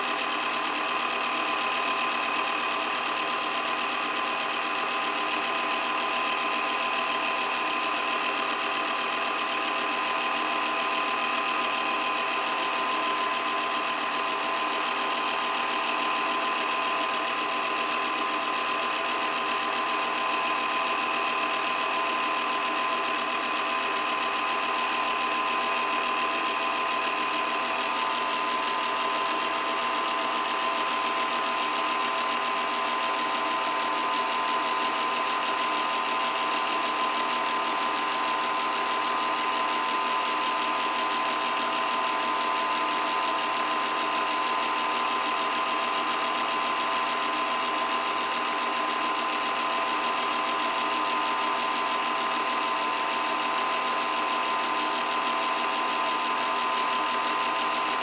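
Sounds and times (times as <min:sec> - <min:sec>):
film projector whirring and clattering: 0:00.0 - 0:58.0.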